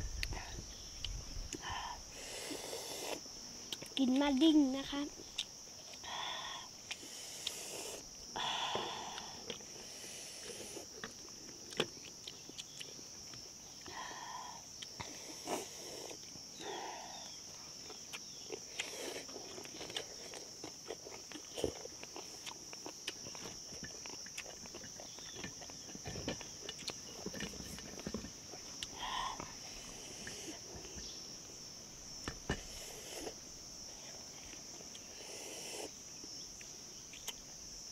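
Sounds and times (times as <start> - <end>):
insect chorus: 0.0 - 37.9.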